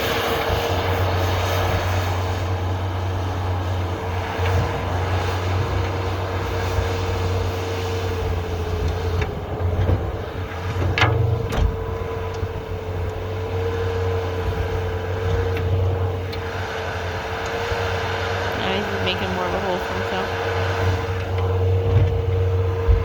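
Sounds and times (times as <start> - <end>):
loader engine drone with whine: 0.0 - 23.0.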